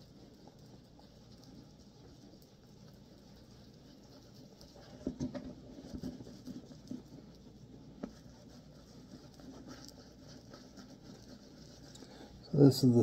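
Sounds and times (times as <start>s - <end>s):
cloth rubbing leather boot: 2.2s - 13.0s.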